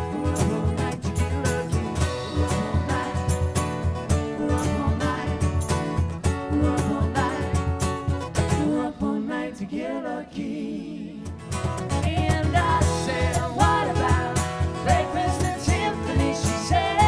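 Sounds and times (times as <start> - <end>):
cajon beats: 0.0 - 8.6, 11.3 - 17.0
strummed acoustic guitar: 0.0 - 9.0, 11.2 - 17.0
person singing: 0.0 - 11.4, 12.0 - 17.0.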